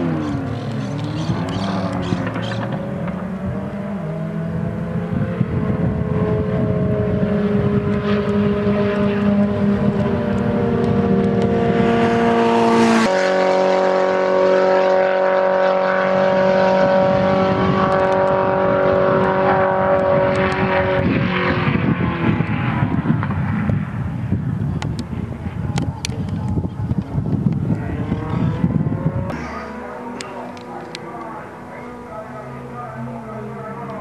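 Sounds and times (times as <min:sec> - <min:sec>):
race car engines at high revs: 0:00.0 - 0:34.0.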